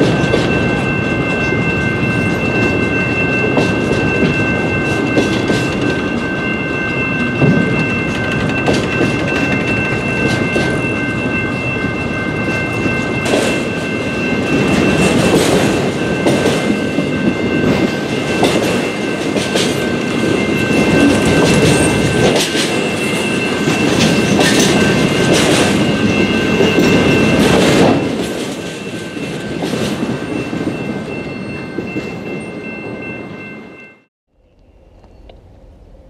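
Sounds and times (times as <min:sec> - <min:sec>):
train wheels clacking: 0:00.0 - 0:32.3
high ringing tone: 0:00.0 - 0:36.0
train rumble: 0:00.0 - 0:36.0.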